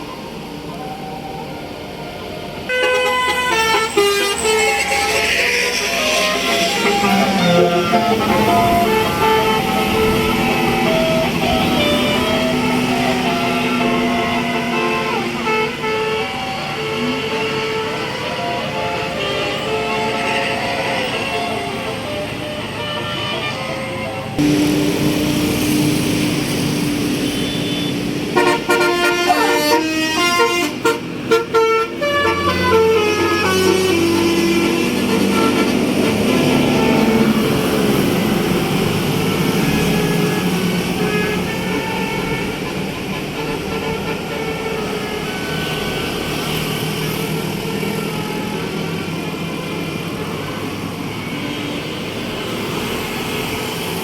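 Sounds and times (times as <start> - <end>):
passing traffic: 0.0 - 54.0
road noise: 0.0 - 54.0
musical bus horn: 2.6 - 26.3, 27.2 - 53.8.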